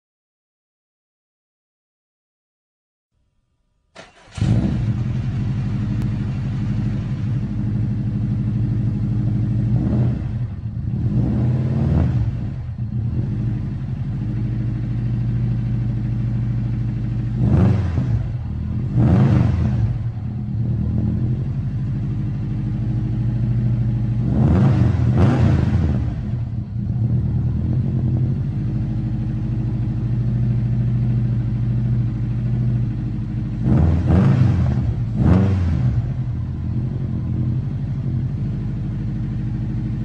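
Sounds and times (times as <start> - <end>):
car engine idling: 4.0 - 40.0
engine throttle blips and revs: 4.0 - 40.0.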